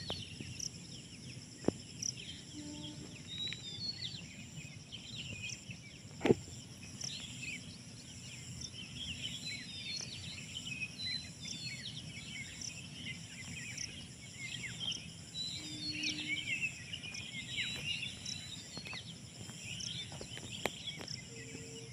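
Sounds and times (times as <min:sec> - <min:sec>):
high insect trill: 0:00.0 - 0:21.9
small birds chirping: 0:00.0 - 0:21.9.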